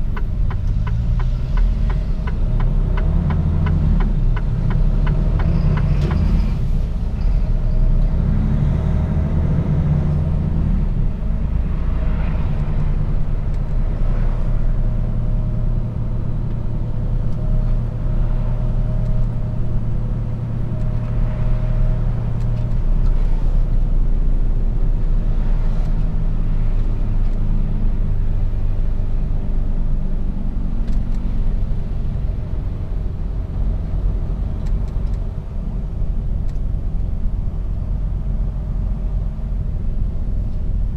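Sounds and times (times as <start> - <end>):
road rumble: 0.0 - 40.9.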